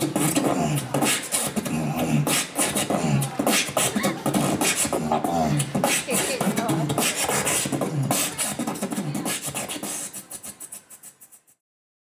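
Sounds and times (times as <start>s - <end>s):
person beatboxing into microphone: 0.0s - 11.6s.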